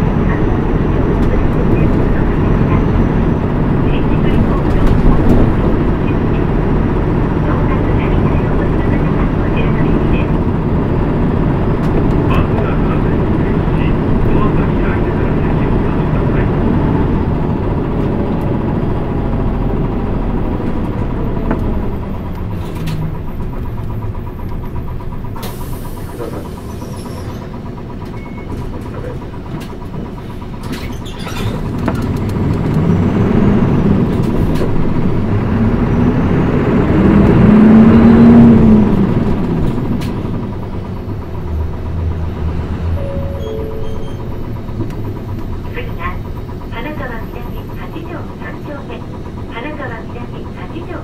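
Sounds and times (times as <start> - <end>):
bus diesel engine: 0.0 - 51.0
road noise: 0.0 - 51.0.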